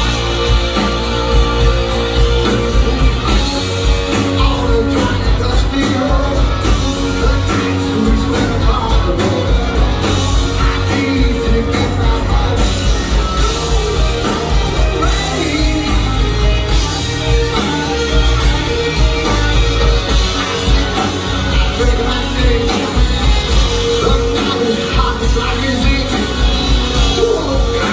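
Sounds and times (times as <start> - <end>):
live rock band playing: 0.0 - 27.9
person singing: 0.2 - 27.9.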